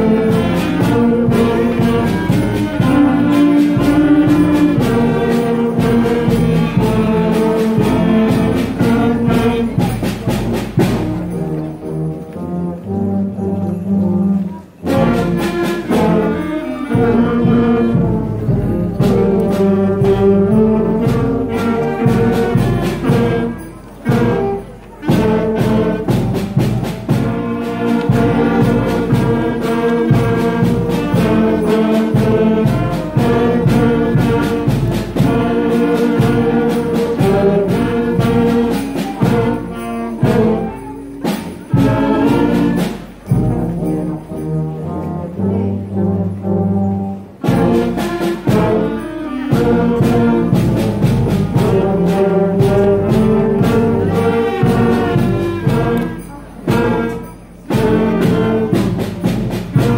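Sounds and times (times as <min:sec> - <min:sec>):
concert band playing: 0:00.0 - 0:59.9.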